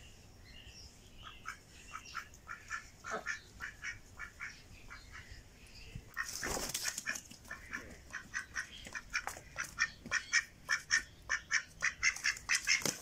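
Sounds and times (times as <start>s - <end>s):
duck quacking raspily: 1.2s - 5.3s, 6.2s - 13.0s.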